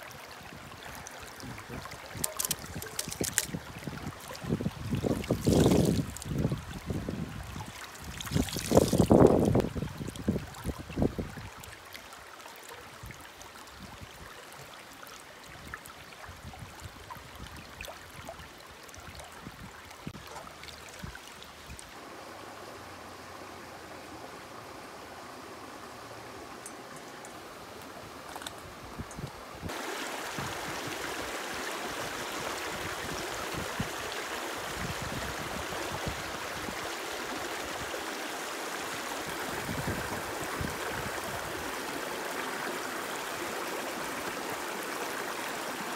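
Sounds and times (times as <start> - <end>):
stream running over rocks: 0.0 - 45.9.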